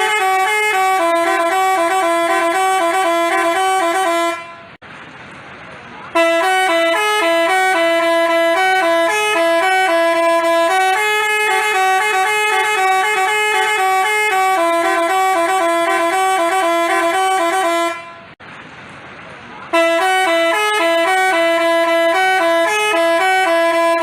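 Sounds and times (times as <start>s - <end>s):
multi-tone bus horn melody: 0.0s - 4.8s, 6.1s - 18.4s, 19.7s - 24.0s.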